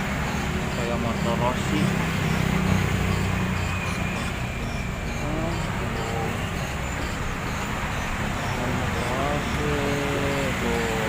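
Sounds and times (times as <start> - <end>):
engine hum: 0.0 - 11.0
road traffic noise: 0.0 - 11.0
faint distant voices: 0.2 - 11.0.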